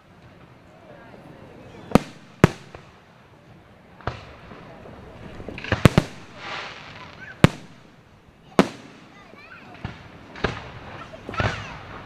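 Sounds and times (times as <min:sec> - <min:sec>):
fireworks bursting: 0:01.6 - 0:12.0.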